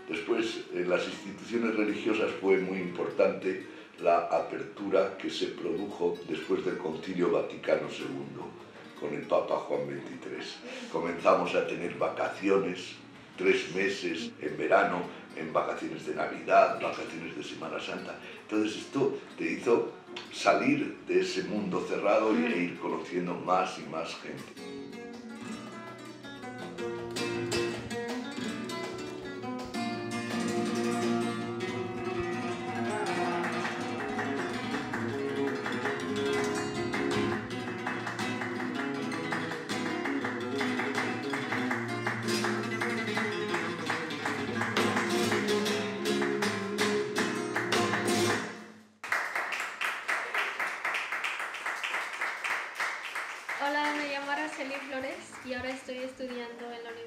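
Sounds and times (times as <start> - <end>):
flamenco-style guitar strumming: 0.0 - 20.7, 21.4 - 23.2, 24.3 - 49.0.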